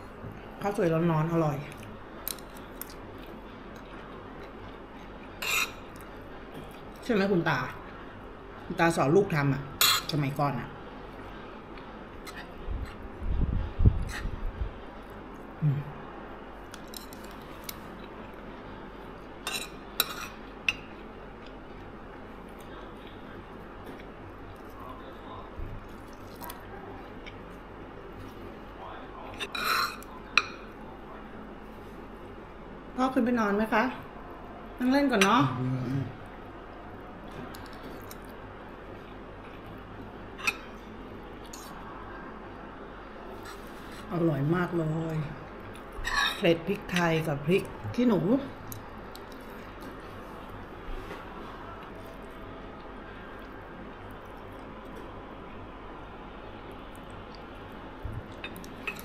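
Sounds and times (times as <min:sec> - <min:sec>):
low room hum: 0:00.0 - 0:59.0.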